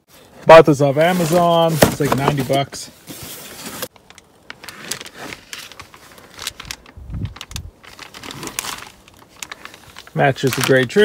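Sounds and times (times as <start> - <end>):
cardboard and plastic rustling: 0.1 - 11.0.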